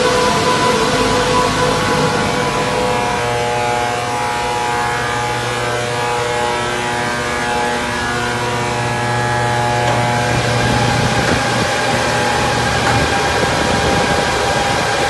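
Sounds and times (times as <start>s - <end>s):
mining machine fans whirring: 0.0s - 15.0s.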